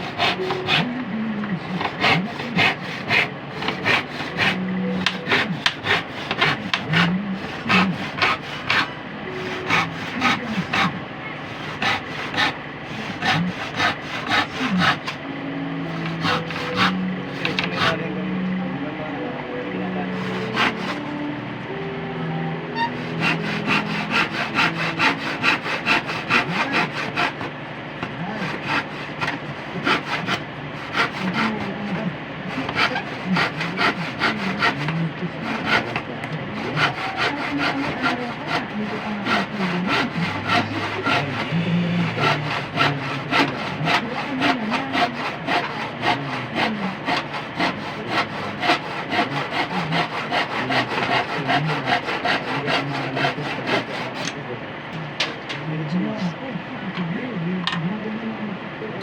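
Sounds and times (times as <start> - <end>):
hand saw cutting wood: 0.0 - 1.0, 1.6 - 15.2, 15.9 - 18.1, 20.2 - 21.2, 22.8 - 54.4.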